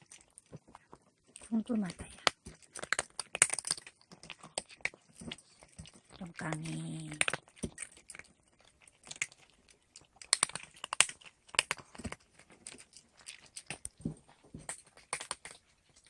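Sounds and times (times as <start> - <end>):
pet crunching dry food: 0.0 - 16.0.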